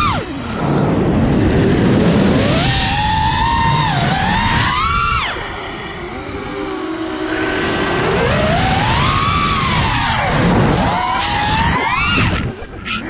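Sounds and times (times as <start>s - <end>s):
quadcopter motors whining: 0.0s - 13.0s
wind rumble on microphone: 0.0s - 13.0s.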